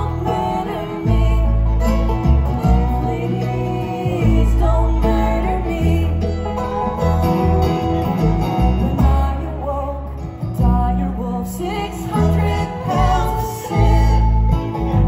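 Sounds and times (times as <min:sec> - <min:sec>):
acoustic guitar: 0:00.0 - 0:15.0
banjo: 0:00.0 - 0:15.0
fiddle: 0:00.0 - 0:15.0
upright bass notes: 0:00.0 - 0:15.0.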